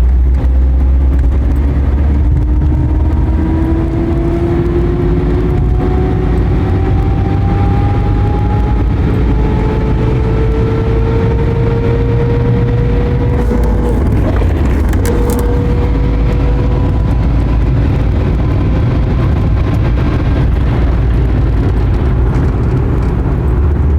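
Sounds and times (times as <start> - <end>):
car engine accelerating: 0.0 - 23.9.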